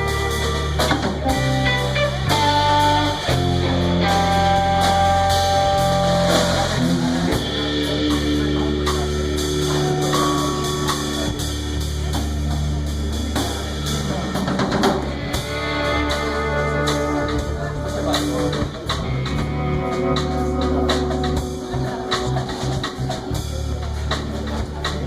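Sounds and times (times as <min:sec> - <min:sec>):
rock band playing: 0:00.0 - 0:25.0.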